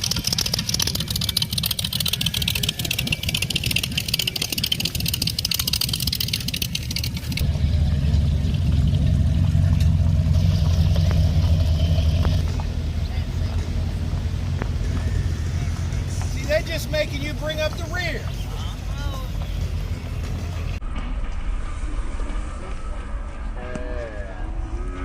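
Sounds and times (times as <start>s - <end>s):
car engine running: 0.0s - 20.8s.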